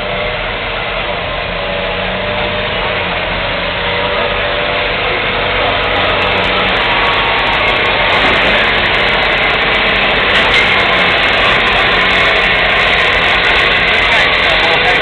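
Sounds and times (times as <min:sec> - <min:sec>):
tractor engine running hard: 0:00.0 - 0:15.0.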